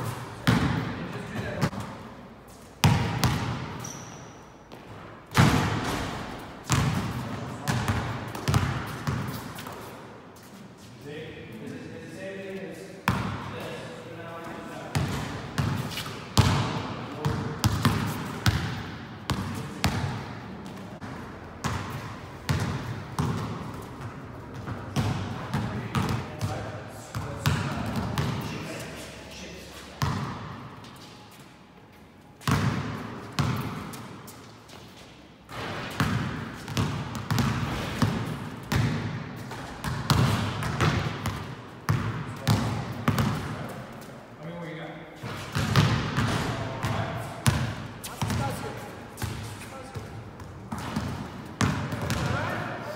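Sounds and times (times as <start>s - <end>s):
basketballs bouncing in gym: 0.0s - 2.1s, 2.8s - 9.9s, 13.0s - 13.8s, 14.7s - 28.8s, 29.9s - 31.0s, 32.3s - 34.8s, 35.4s - 44.2s, 45.2s - 52.9s.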